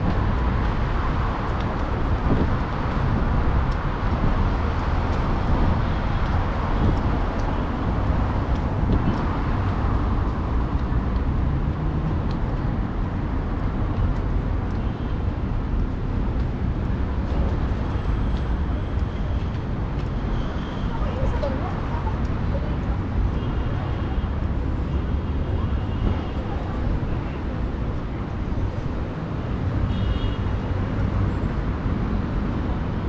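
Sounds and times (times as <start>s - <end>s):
low rumble of road traffic: 0.0s - 33.0s.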